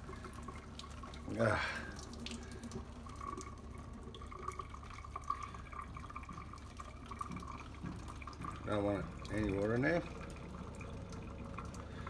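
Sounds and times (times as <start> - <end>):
small irregular drips: 0.0 - 12.0
water trickling into metal sink: 0.0 - 12.0.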